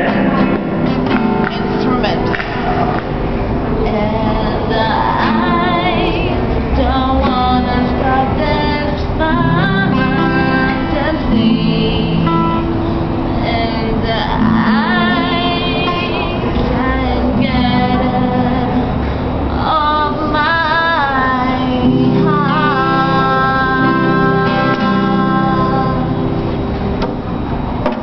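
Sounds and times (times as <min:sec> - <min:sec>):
strummed acoustic guitar: 0:00.0 - 0:28.0
woman singing: 0:03.8 - 0:26.6.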